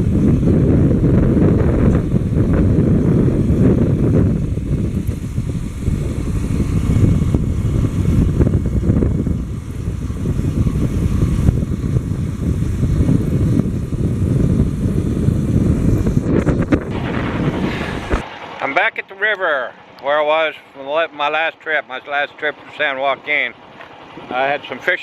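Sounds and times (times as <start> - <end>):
wind rushing over microphone: 0.0 - 19.0, 22.4 - 25.0
motorcycle engine: 0.0 - 21.0.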